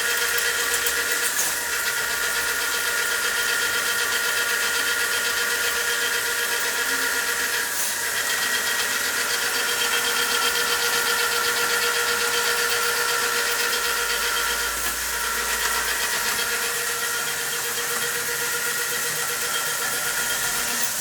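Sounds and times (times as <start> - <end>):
motor whining: 0.0 - 21.0.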